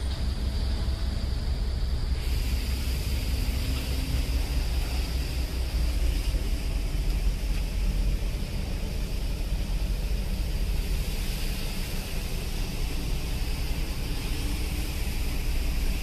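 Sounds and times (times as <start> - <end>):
boat engine: 0.0 - 16.0
rushing water: 0.0 - 16.0.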